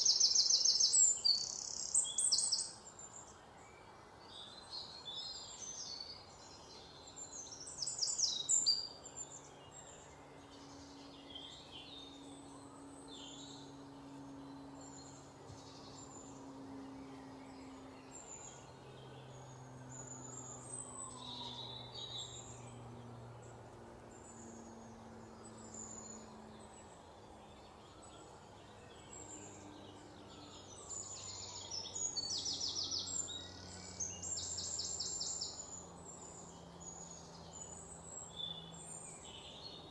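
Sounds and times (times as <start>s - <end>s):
birds chirping and trilling: 0.0s - 39.9s
faint low hum: 0.0s - 39.9s.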